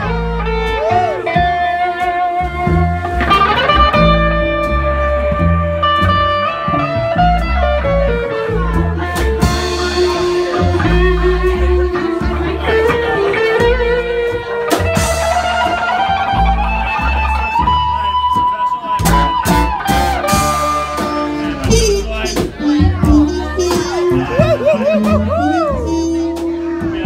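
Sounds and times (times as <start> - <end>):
drums: 0.0 - 27.0
guitar sliding melody: 0.0 - 27.0
upright bass: 0.0 - 27.0.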